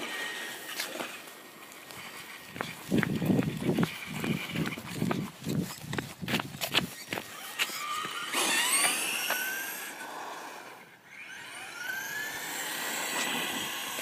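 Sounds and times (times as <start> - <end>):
toy car motor whining: 0.0 - 1.3, 1.9 - 14.0.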